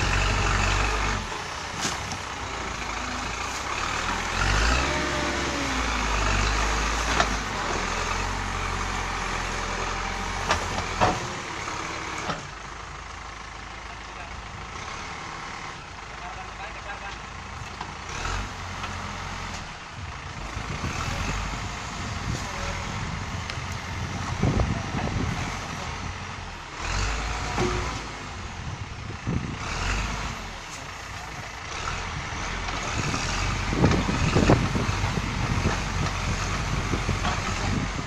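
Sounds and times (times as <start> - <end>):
diesel engine under load: 0.0 - 38.0.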